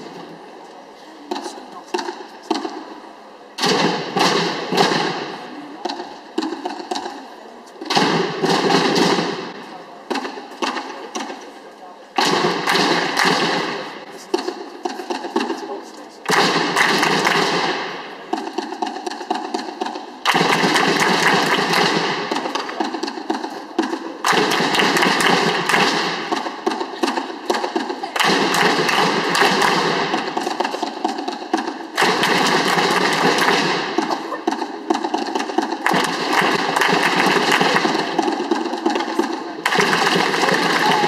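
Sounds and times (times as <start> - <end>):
group drumming fast: 3.6 - 11.4, 12.2 - 41.0.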